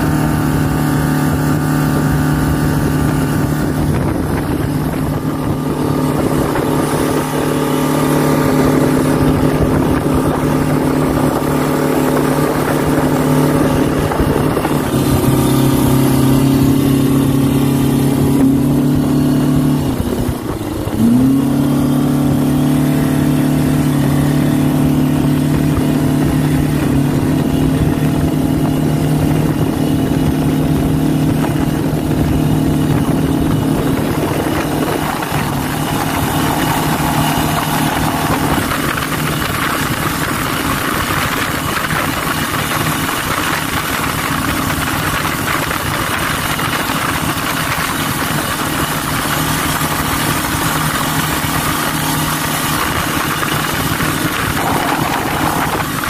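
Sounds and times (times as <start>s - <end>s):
outboard motor at high throttle: 0.0s - 56.0s
rushing wake water: 0.0s - 56.0s
wind: 0.0s - 56.0s.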